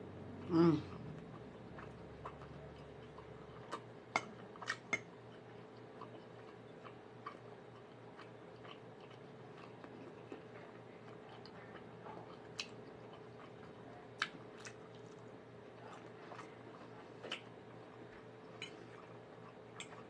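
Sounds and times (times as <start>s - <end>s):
faint steady hum: 0.0s - 20.0s
quiet chewing: 0.4s - 20.0s.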